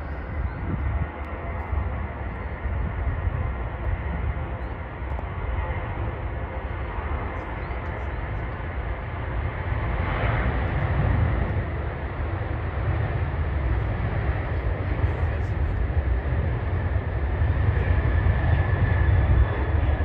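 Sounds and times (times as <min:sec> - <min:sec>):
jet airliner engine passing: 0:00.0 - 0:20.0.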